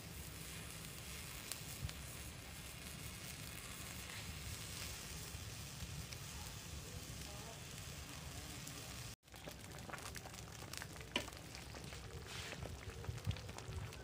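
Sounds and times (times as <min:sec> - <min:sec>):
curry bubbling in a pan: 0:00.0 - 0:14.0.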